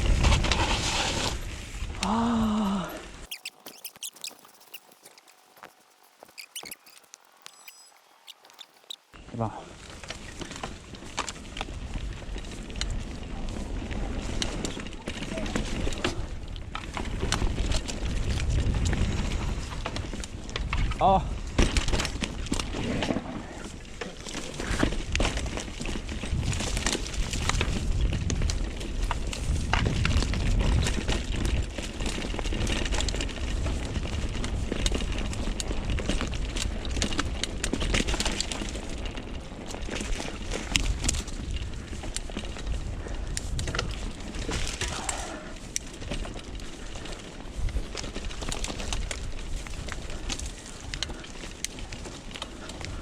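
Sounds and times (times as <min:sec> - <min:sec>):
bike rattling over bumps: 0:00.0 - 0:02.0, 0:09.8 - 0:53.0
wind rumbling on microphone: 0:00.0 - 0:05.0, 0:09.8 - 0:53.0
bike tyres rolling on dirt: 0:00.0 - 0:53.0.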